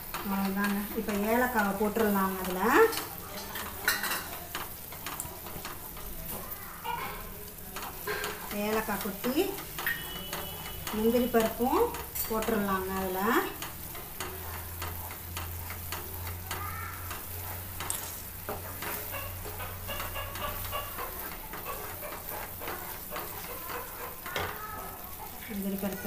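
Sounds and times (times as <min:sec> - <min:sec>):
ghee sizzling in a pan: 0:00.0 - 0:26.0
wooden spatula scraping a pan: 0:00.0 - 0:26.0.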